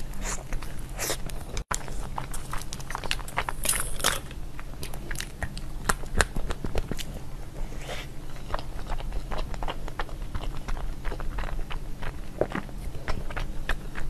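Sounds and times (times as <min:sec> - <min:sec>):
biting and chewing: 0:00.0 - 0:14.0.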